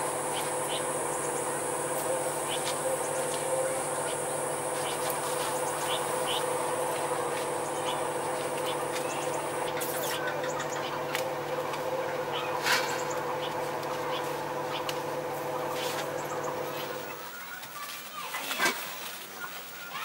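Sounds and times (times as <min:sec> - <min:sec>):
high steady buzz: 0:00.0 - 0:17.3
droning hum: 0:00.0 - 0:17.6.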